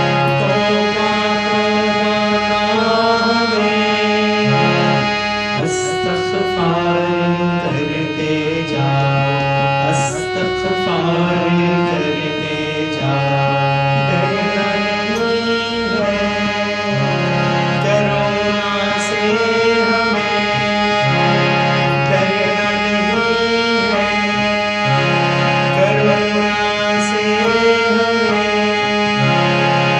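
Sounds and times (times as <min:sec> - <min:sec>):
instrumental music with held chords: 0:00.0 - 0:29.9.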